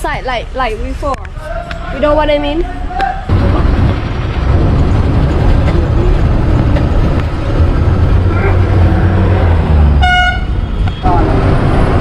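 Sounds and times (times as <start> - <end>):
bus engine rumbling: 0.0 - 12.0
road noise: 0.0 - 12.0.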